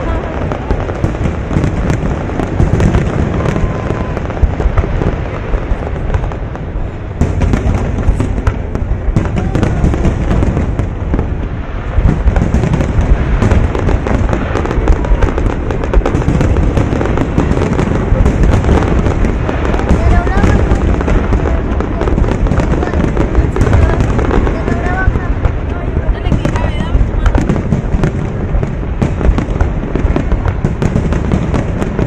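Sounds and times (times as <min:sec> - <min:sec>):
fireworks booming and crackling: 0:00.0 - 0:32.0.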